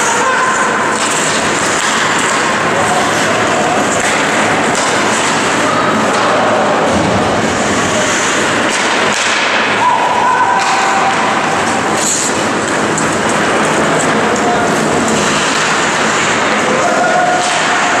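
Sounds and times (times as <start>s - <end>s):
ice hockey play noise: 0.0s - 18.0s
indistinct voices of spectators: 0.0s - 18.0s.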